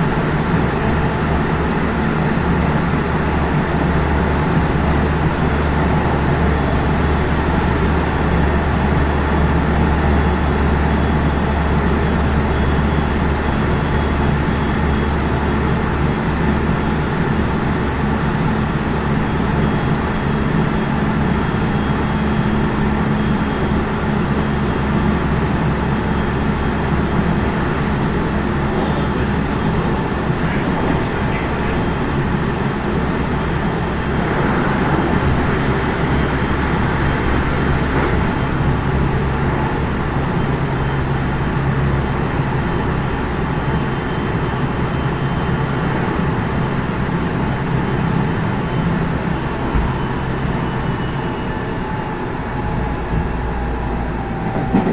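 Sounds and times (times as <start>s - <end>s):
train wheels and motors rumbling: 0.0s - 54.9s.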